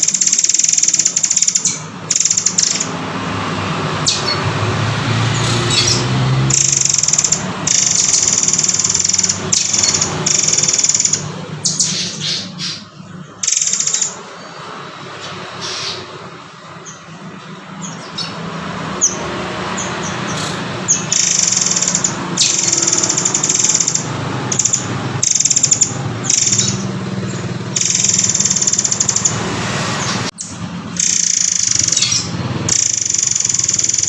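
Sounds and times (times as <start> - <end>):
songbird trilling: 0.0 - 34.0.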